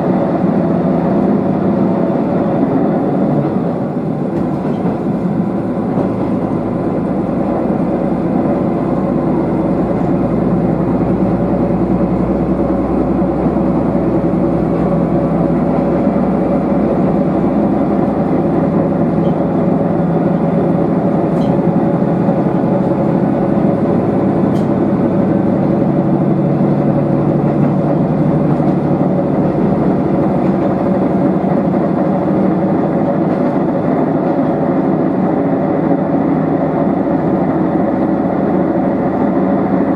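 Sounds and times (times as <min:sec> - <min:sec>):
railcar engine and running gear: 0:00.0 - 0:39.9.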